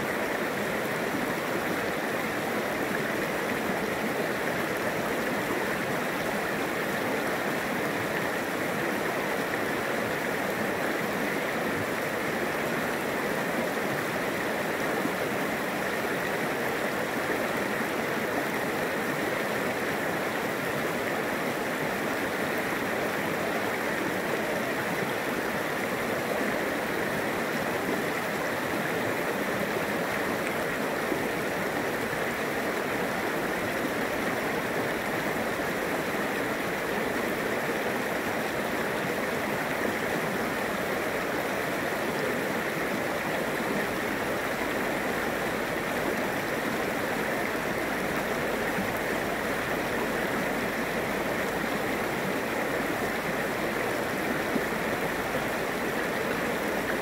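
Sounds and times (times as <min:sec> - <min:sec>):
creek running over rocks: 0:00.0 - 0:57.0.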